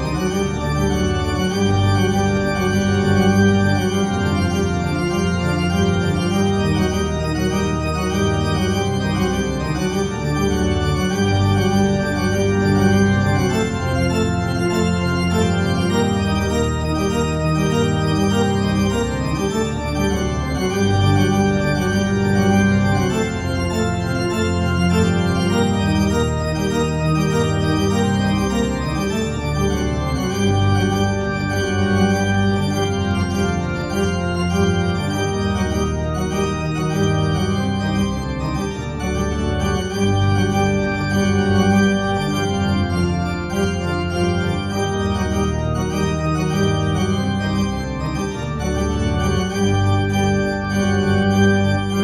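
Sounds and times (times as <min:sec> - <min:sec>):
organ playing slow held chords: 0:00.0 - 0:52.0.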